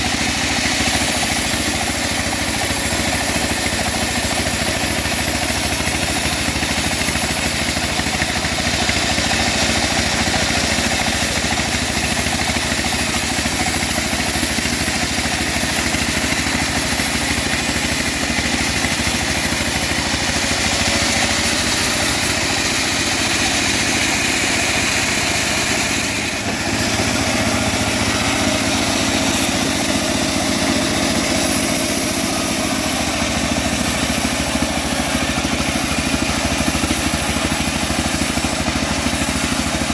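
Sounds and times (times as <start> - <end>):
bandsaw mill sawing timber: 0.0 - 39.9.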